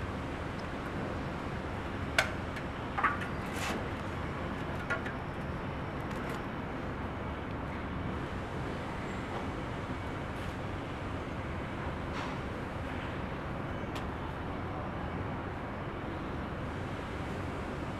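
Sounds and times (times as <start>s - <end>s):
steady background hum: 0.0s - 17.9s.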